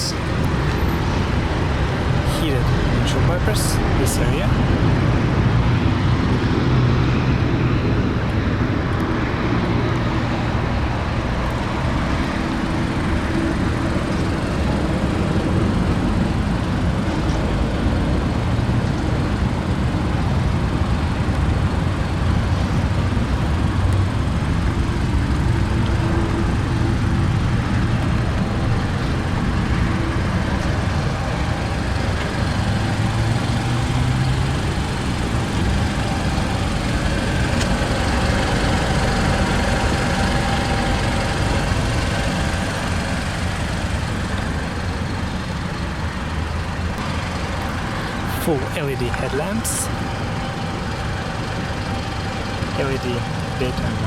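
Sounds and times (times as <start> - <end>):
car engine idling: 0.0 - 9.1, 9.9 - 54.0.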